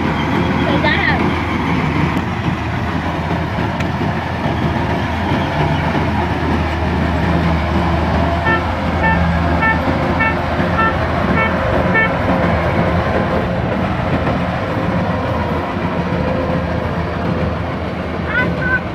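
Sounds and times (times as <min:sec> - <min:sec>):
harvester engine running: 0:00.0 - 0:18.9.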